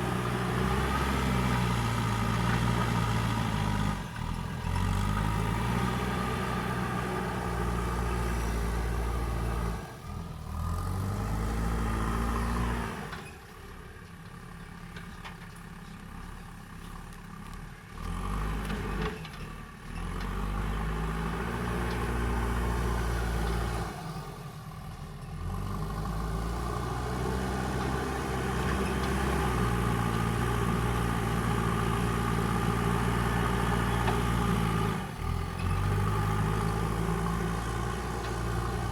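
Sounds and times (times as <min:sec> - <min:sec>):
backhoe diesel engine revving: 0:00.0 - 0:13.4, 0:17.9 - 0:38.9.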